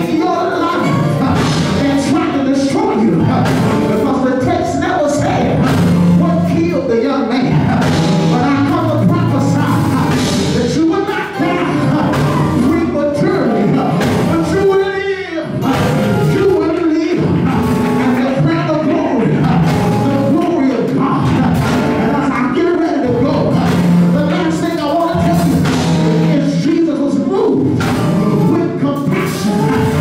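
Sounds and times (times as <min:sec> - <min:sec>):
live church band: 0:00.0 - 0:30.0
man singing into a microphone: 0:00.0 - 0:30.0.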